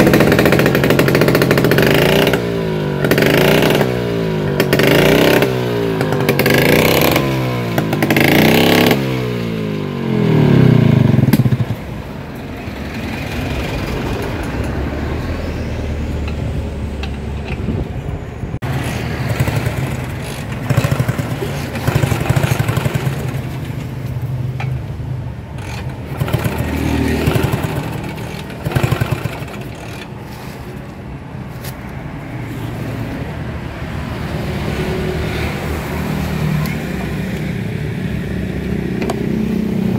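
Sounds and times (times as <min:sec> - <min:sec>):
scooter engines revving: 0:00.0 - 0:39.9.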